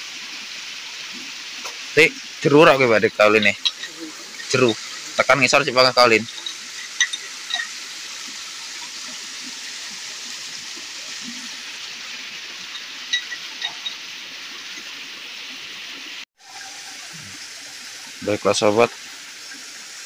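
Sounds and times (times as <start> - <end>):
water flowing over rocks: 0.0 - 20.0.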